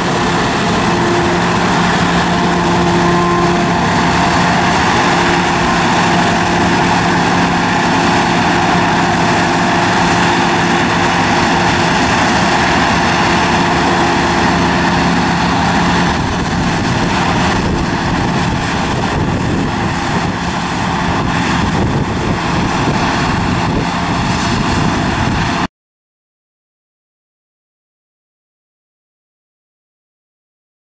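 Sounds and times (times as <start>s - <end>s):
combine harvester droning: 0.0s - 25.7s.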